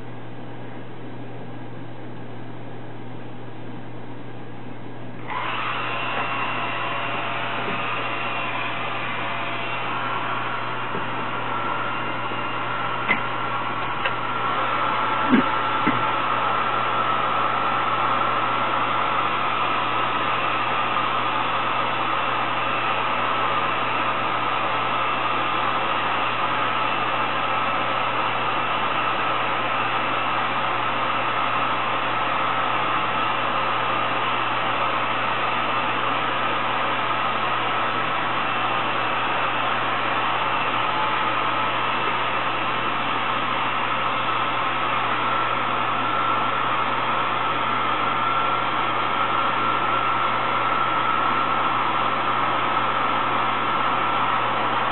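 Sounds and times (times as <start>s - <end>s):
faint high whine: 0.0s - 53.4s.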